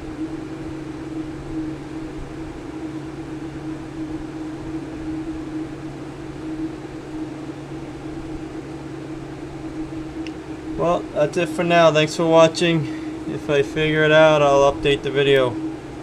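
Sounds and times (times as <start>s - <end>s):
steady machine hum and hiss: 0.0s - 16.0s.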